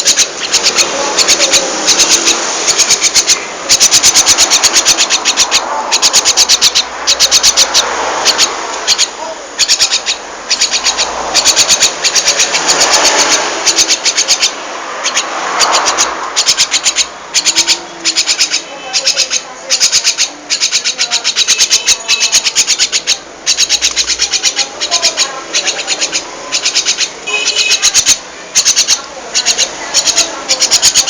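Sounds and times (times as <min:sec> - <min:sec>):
bird scratchy warbling: 0:00.0 - 0:31.0.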